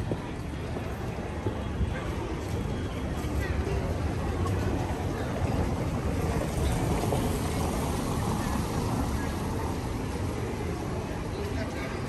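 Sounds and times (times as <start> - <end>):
faint voices of passers-by: 0.0 - 12.0
traffic rumble: 0.0 - 12.0.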